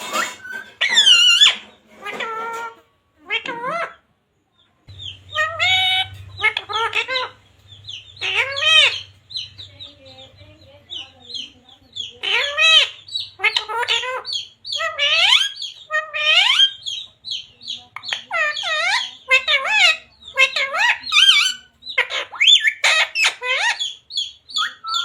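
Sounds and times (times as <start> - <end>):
parrot high chirps: 0.0 - 4.1, 4.9 - 9.6, 11.3 - 25.0
parrot squawking and chattering: 0.0 - 4.1, 4.9 - 10.3, 10.9 - 25.0.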